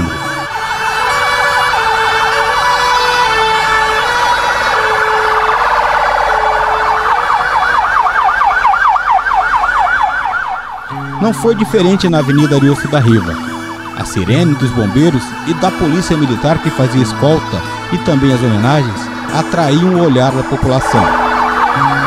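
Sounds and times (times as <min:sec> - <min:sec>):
fast yelping siren: 0:00.0 - 0:22.0
overlapping emergency sirens: 0:00.0 - 0:22.0.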